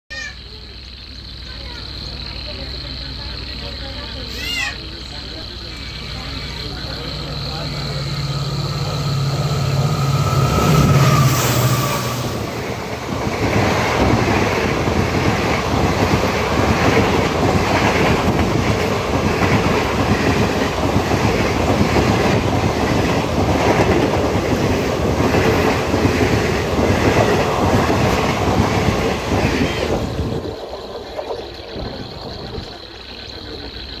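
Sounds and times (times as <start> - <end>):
train running: 0.1 - 34.0
locomotive low drone: 0.5 - 34.0
clatter of train wheels: 5.2 - 34.0.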